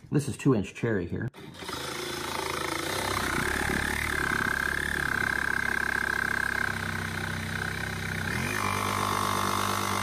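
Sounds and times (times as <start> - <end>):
jigsaw cutting wood: 1.4 - 10.0.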